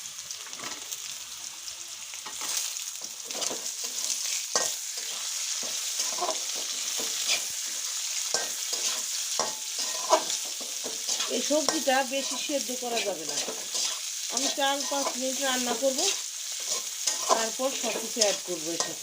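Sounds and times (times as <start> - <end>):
carrot sizzling in oil: 0.0 - 19.0
spatula scraping and knocking pan: 2.3 - 19.0.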